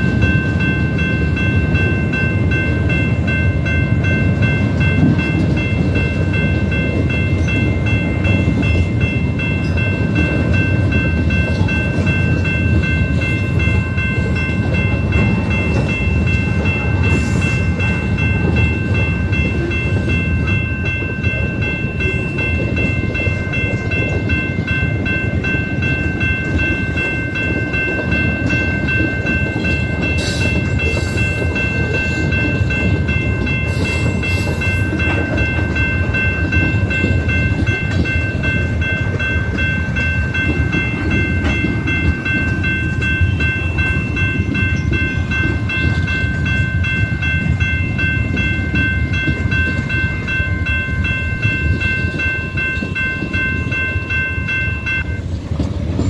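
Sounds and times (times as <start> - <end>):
crossing warning bell ringing: 0.0 - 56.0
train wheels rumbling on rail: 0.0 - 56.0.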